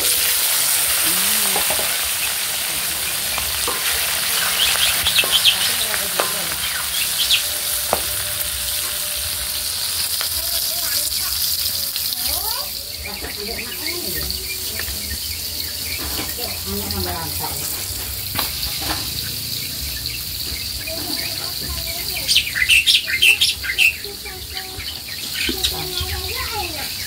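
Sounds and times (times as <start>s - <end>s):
sauce sizzling in a wok: 0.0s - 27.0s
bird chirping: 3.1s - 9.7s, 10.8s - 27.0s.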